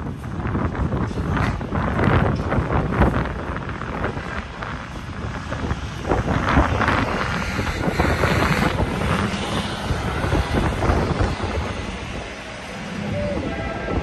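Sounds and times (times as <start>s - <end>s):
traffic rumble: 0.0s - 14.0s
wind buffeting microphone: 0.0s - 14.0s.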